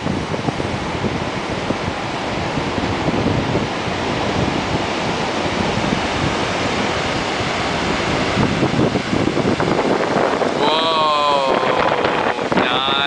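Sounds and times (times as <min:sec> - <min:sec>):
wind buffeting microphone: 0:00.0 - 0:13.0
train running noise: 0:00.7 - 0:13.0.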